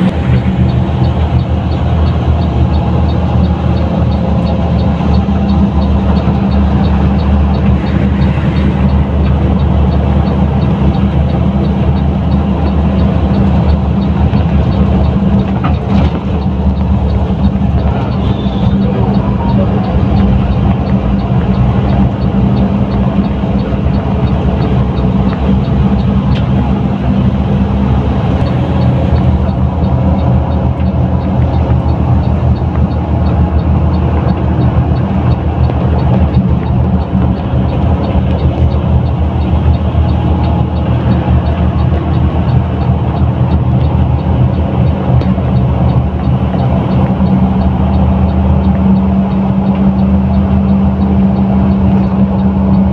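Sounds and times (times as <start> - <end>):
bus diesel engine droning: 0.0 - 52.9
road noise: 0.0 - 52.9.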